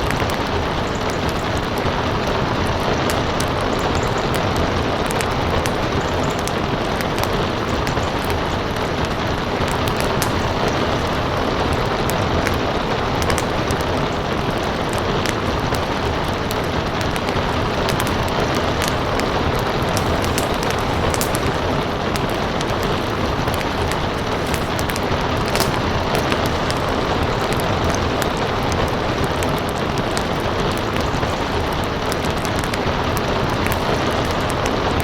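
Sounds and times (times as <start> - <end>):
steady rain: 0.0 - 35.0
wood fire crackling: 0.0 - 35.0.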